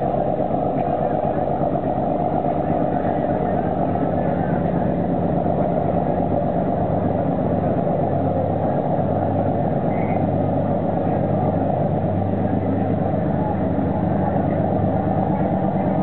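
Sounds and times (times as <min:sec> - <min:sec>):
boat engine drone: 0:00.0 - 0:16.0.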